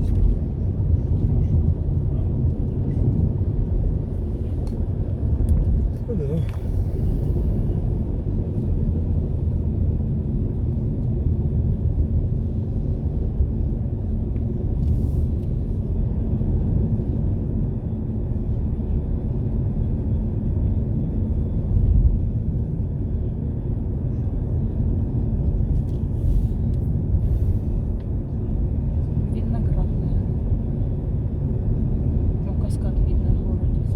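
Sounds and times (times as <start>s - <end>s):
car road and engine rumble: 0.0s - 33.9s.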